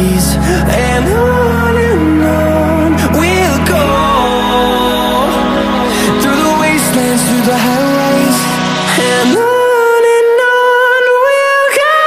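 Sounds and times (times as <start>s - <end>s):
background pop music: 0.0s - 12.0s.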